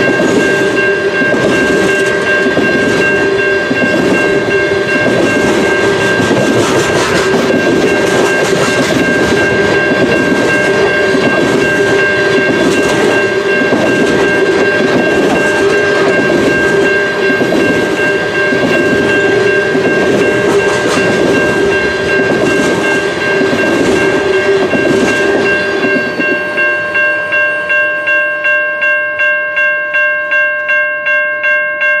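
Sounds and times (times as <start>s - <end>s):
train wheels clattering over rail joints: 0.0s - 26.6s
railway crossing bell ringing: 0.0s - 32.0s.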